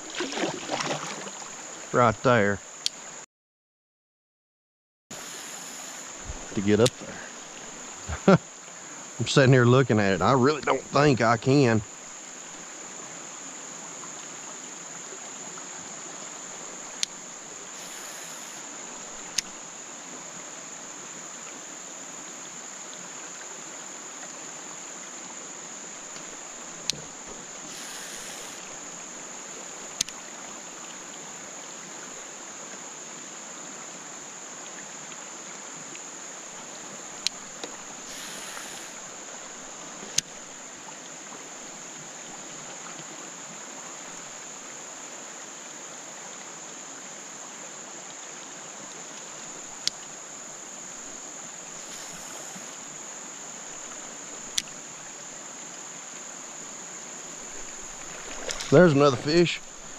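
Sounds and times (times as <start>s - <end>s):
insect chorus: 0.0s - 3.3s, 5.1s - 59.9s
soft water hiss: 0.0s - 3.3s, 5.1s - 59.9s.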